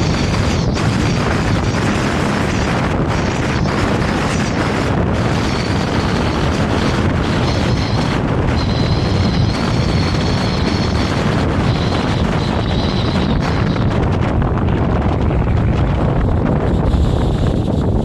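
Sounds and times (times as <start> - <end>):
high thin whine: 0.0 - 18.0
tram rumbling on track: 0.0 - 18.0.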